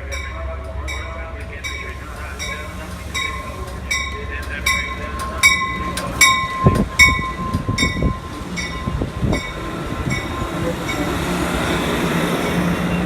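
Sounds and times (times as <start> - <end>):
train approaching rumble: 0.0 - 13.0
warning bell ringing: 0.0 - 13.0.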